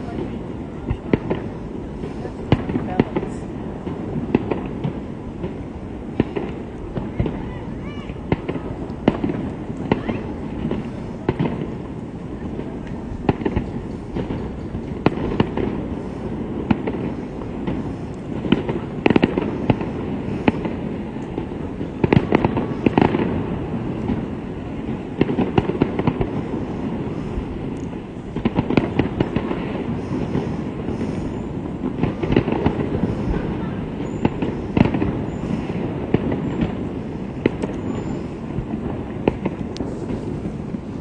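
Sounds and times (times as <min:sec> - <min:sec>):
fireworks bangs and crackles: 0:00.0 - 0:41.0
steady low rumble: 0:00.0 - 0:41.0.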